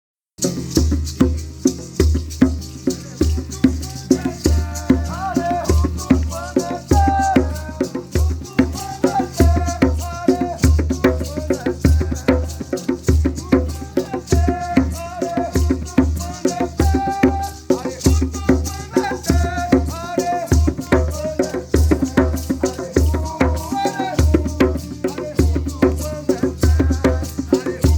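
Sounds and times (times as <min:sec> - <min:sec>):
shaken rattles: 0:00.4 - 0:27.9
person singing: 0:03.0 - 0:27.9.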